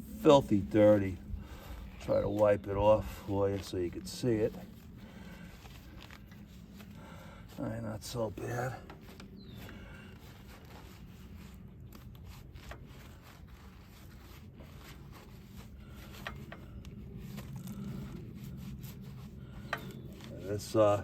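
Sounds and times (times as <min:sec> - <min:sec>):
hand rubbing grime: 0:02.0 - 0:21.0.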